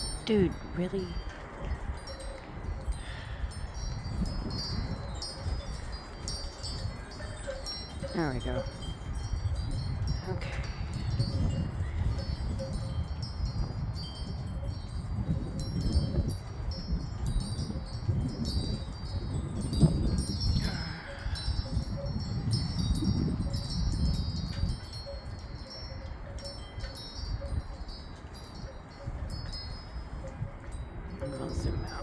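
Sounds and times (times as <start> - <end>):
wind chimes tinkling: 0.0 - 32.0
wind rumble on microphone: 0.0 - 32.0.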